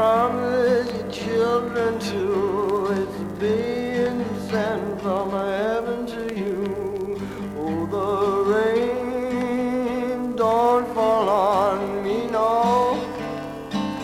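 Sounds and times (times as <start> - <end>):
man singing blues with vibrato: 0.0 - 14.0.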